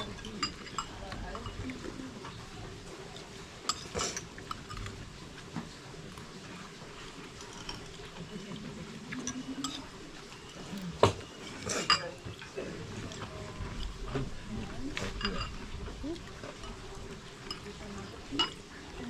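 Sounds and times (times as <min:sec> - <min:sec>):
cutlery clinking against crockery: 0:00.0 - 0:06.3, 0:07.1 - 0:19.0
faint room murmur: 0:00.0 - 0:19.0.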